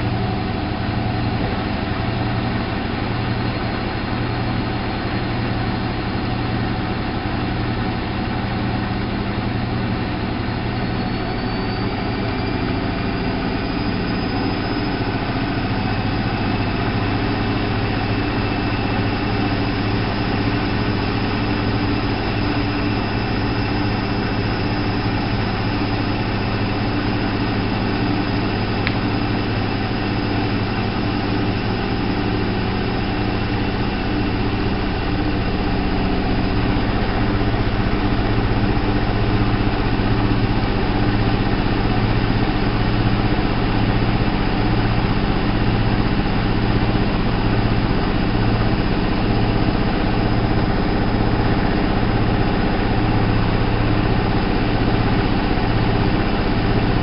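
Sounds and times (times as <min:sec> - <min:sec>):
washing machine humming: 0:00.0 - 0:57.0
motor whine rising in pitch: 0:09.9 - 0:57.0.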